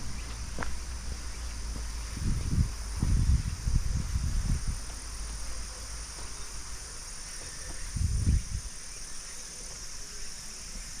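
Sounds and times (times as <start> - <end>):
high insect chorus: 0.0 - 11.0.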